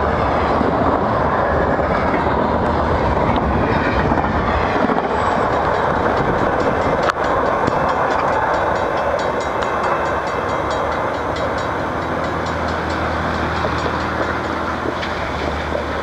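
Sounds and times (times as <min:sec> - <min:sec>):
freight train wheels clicking: 0:00.0 - 0:16.0
train cars rumbling: 0:00.0 - 0:16.0.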